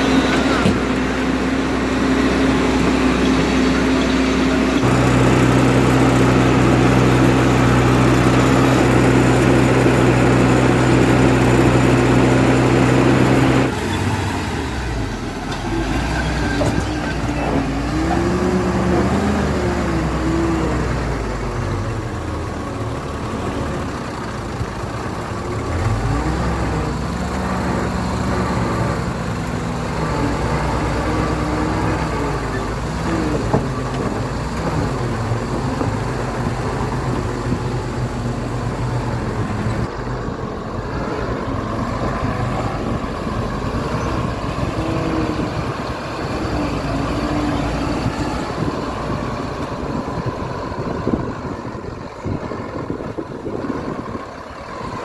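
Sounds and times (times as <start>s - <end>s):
heavy diesel engine revving: 0.0s - 55.0s.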